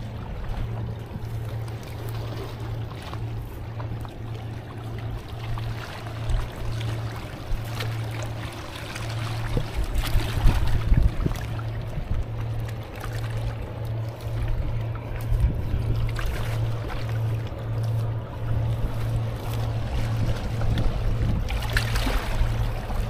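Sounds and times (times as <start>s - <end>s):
boat engine throbbing hum: 0.0s - 23.0s.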